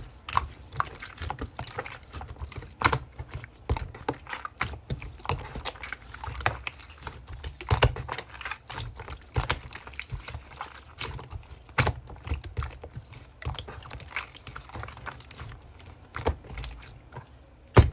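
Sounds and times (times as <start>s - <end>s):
slime squishing by hand: 0.0s - 17.9s.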